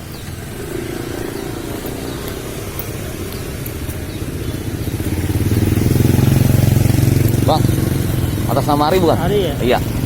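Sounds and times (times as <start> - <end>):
motorcycle engine approaching: 0.0 - 10.0.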